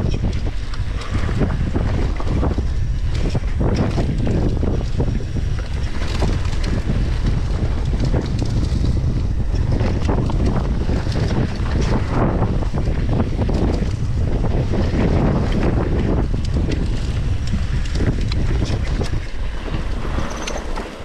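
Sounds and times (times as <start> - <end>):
bike rattling and knocking: 0.0 - 21.0
wind buffeting microphone: 0.0 - 21.0.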